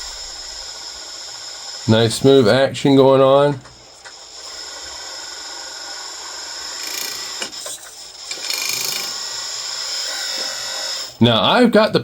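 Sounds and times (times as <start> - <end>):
hydraulic pump whining: 0.0 - 11.6.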